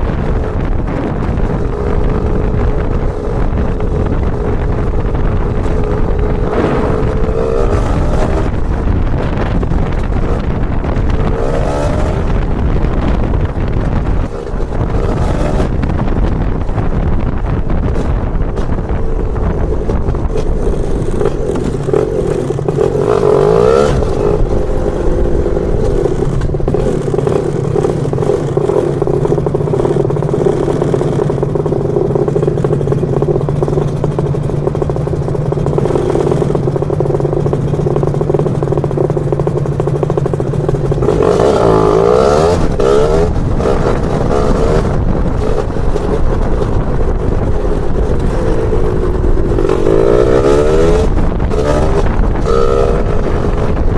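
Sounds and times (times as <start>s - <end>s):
scooter two-stroke engine running: 0.0s - 53.9s.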